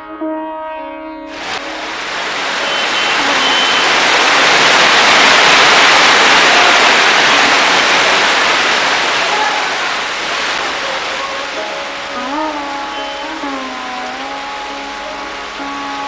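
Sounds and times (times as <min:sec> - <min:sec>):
heavy rain: 0:01.3 - 0:16.0.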